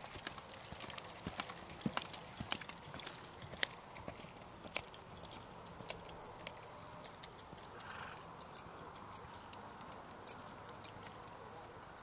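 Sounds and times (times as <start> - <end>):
horse hoofbeats on dirt: 0.0 - 12.0.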